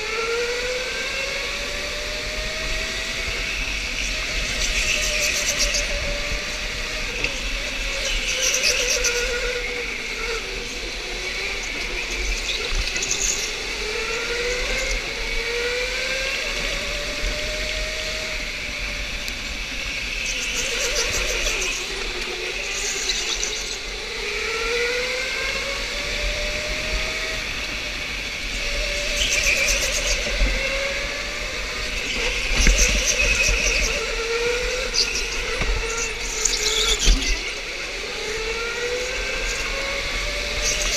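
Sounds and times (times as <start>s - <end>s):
rolling and wind noise: 0.0s - 40.9s.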